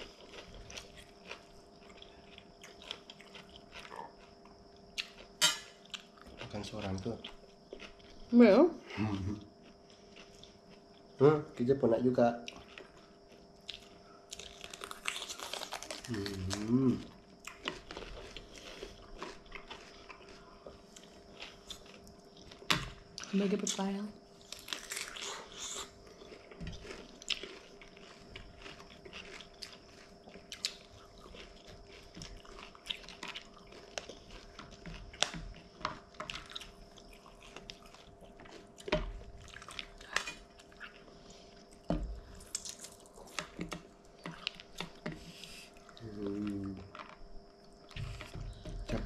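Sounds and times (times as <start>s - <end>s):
chewing and crunching: 0.0s - 11.3s, 12.2s - 49.0s
faint steady hum: 0.0s - 49.0s.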